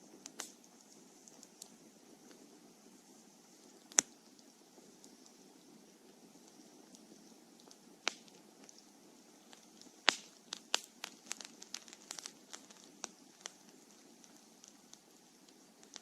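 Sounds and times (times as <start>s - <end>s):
fire crackling pops: 0.0s - 16.0s
low rush of flame: 0.0s - 16.0s.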